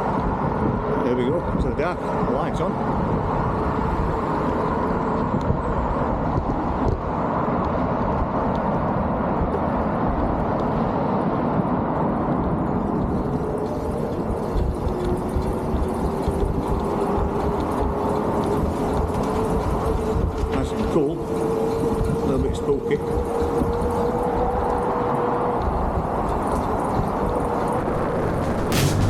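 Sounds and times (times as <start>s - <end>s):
wind and tyre rumble: 0.0s - 29.0s.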